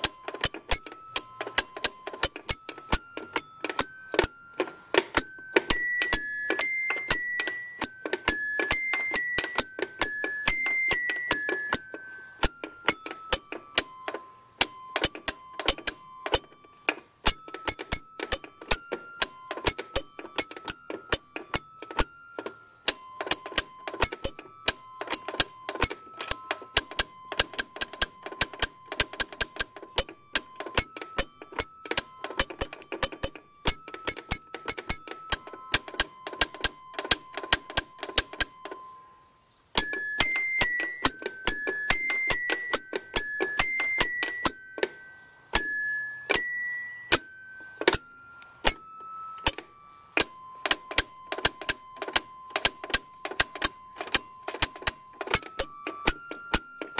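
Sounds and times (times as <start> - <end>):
toy piano notes ringing: 0.0 - 56.9.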